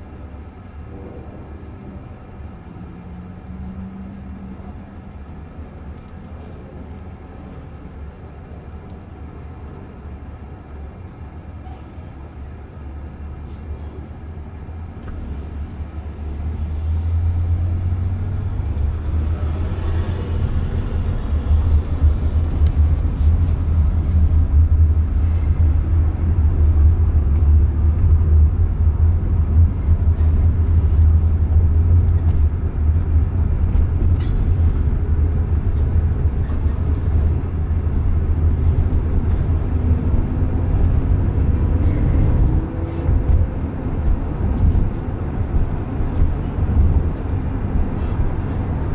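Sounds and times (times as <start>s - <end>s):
road and tyre rumble in car cabin: 0.0s - 48.9s.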